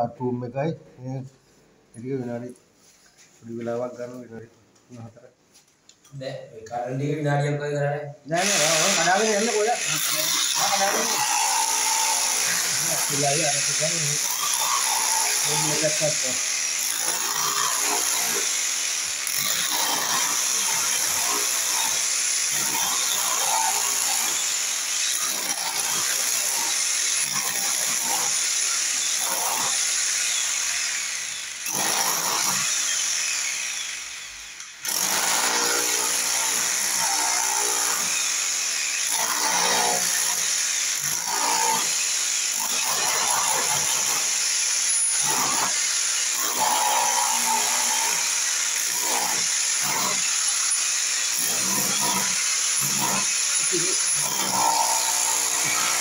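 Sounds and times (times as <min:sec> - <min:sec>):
angle grinder whining: 0:08.3 - 0:56.0.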